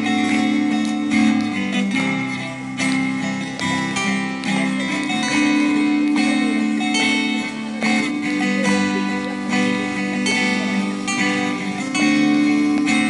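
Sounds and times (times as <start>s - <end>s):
acoustic guitars strumming chords: 0.0s - 13.0s.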